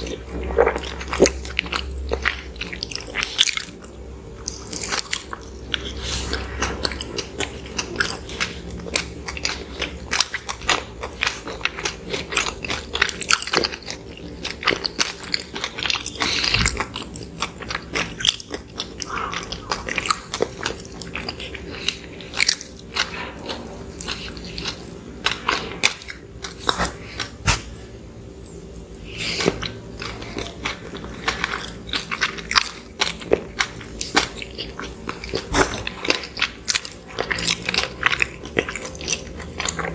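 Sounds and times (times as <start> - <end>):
chewing and biting soft food: 0.0 - 39.9.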